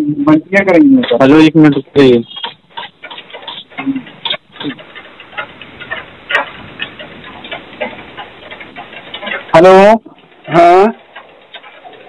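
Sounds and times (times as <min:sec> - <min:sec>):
faint clicks and knocks: 0:01.0 - 0:12.0.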